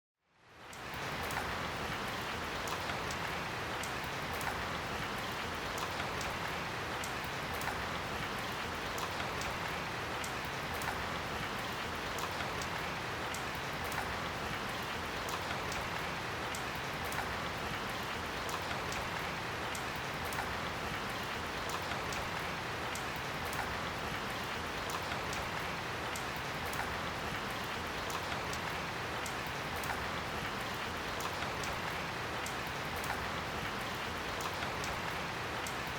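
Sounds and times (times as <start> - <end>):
light rain falling: 0.3 - 35.9.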